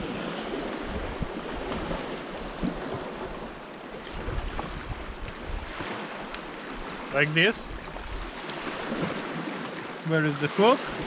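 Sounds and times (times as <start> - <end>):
wind on microphone: 0.0 - 9.4
sea washing against rocks: 0.0 - 11.0.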